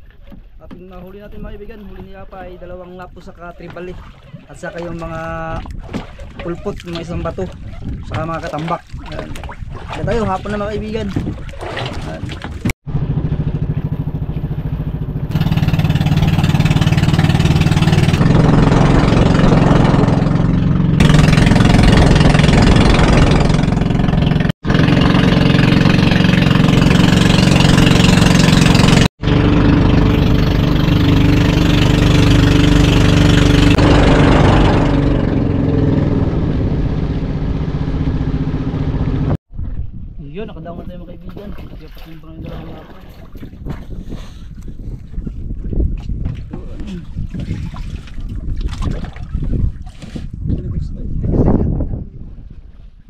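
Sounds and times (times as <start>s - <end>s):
boat engine running: 0.0s - 39.4s, 40.6s - 52.7s.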